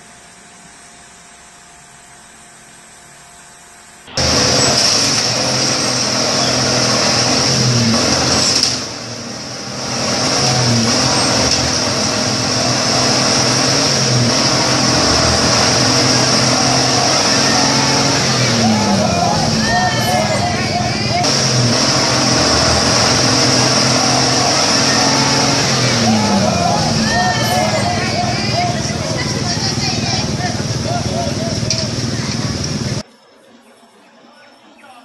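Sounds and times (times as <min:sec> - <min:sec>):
vehicle engine running: 0:04.0 - 0:33.0.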